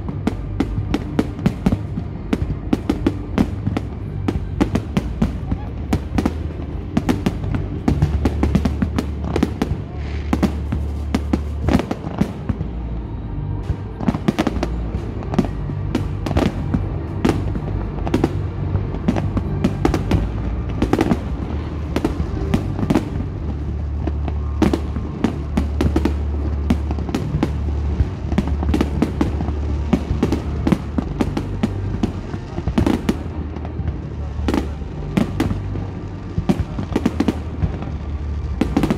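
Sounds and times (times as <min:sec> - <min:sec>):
fireworks bursting: 0:00.0 - 0:38.9
music with deep bass line: 0:00.0 - 0:38.9.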